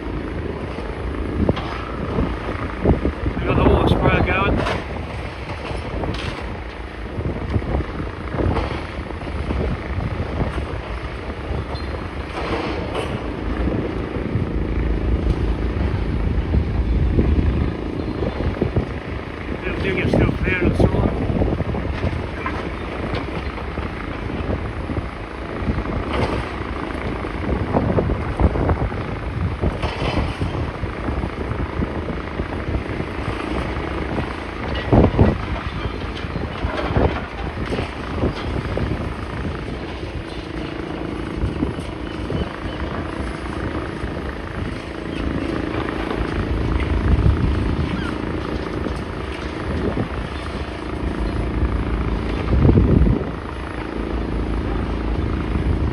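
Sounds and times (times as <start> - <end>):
diesel machinery rumbling: 0.0 - 55.9
wind buffeting microphone: 0.0 - 55.9
demolition knocks and crackles: 0.1 - 55.8.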